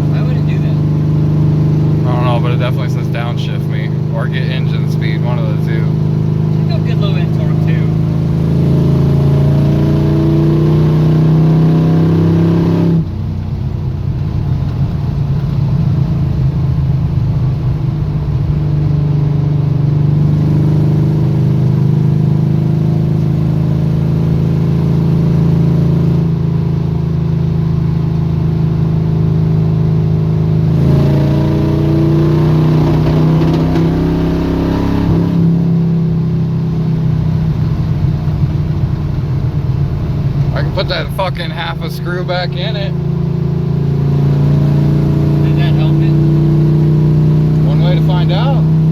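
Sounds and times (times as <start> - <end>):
truck engine running rough: 0.0 - 48.9.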